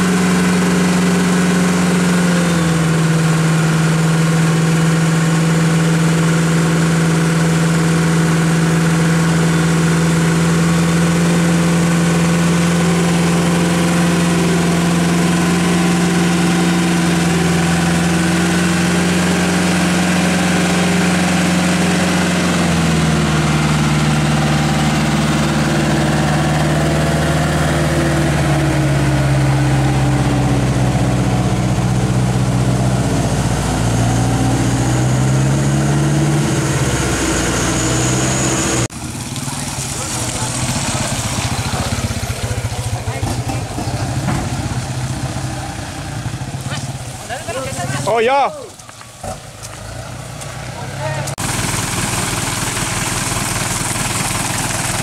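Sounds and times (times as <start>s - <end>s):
truck diesel engine labouring: 0.0s - 55.0s.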